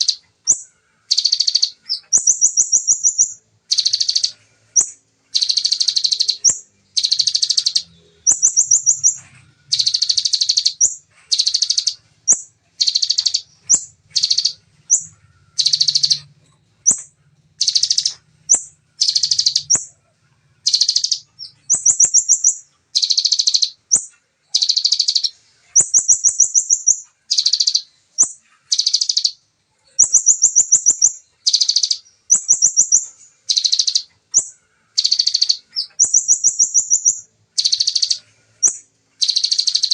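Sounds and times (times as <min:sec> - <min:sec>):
bird singing buzzy bursts: 0:00.0 - 0:20.0, 0:20.6 - 0:39.9.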